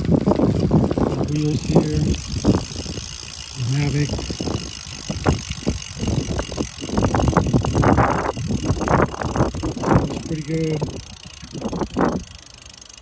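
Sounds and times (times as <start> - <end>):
bike wheel spinning clicks: 0.0 - 13.0.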